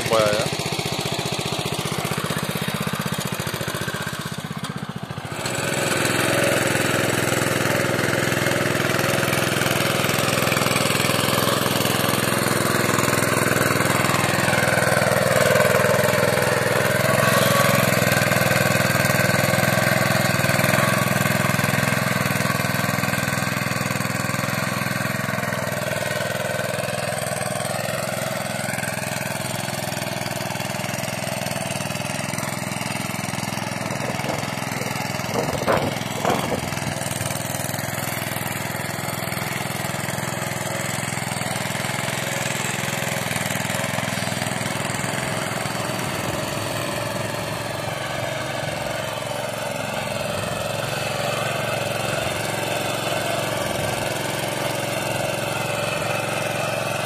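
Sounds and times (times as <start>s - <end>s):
tiller engine running under load: 0.0s - 57.0s.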